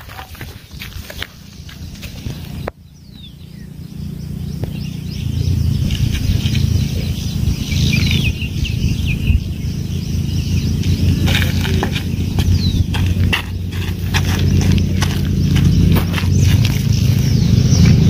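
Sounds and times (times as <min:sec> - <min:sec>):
small birds chirping: 0:00.0 - 0:18.0
low rumble: 0:01.8 - 0:18.0.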